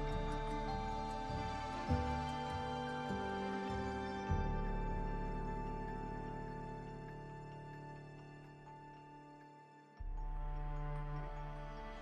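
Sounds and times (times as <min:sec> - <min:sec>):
slow soft background music: 0:00.0 - 0:12.0.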